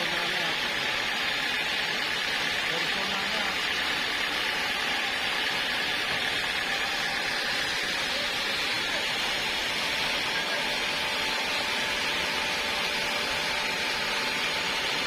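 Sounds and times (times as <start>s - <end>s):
sawmill saw hissing: 0.0s - 15.0s.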